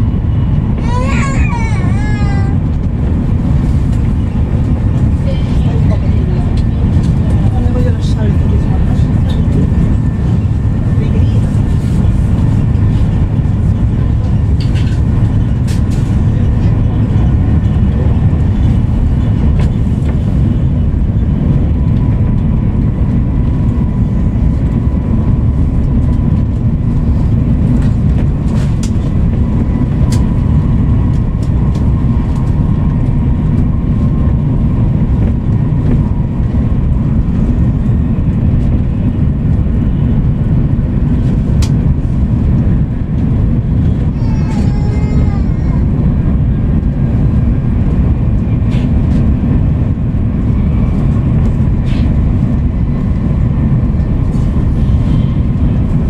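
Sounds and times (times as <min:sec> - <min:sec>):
train interior low rumble: 0:00.0 - 0:56.0.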